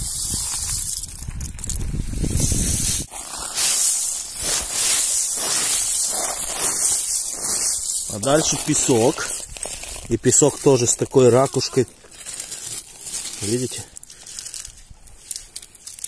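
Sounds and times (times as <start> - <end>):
shells shovelled into a sack: 0.0 - 16.0.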